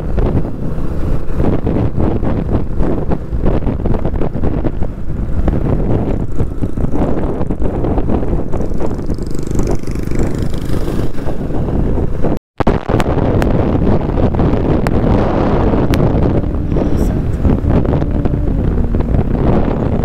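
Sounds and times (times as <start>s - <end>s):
motorcycle engine: 0.0s - 12.4s, 13.5s - 20.0s
wind buffeting microphone: 0.0s - 20.0s.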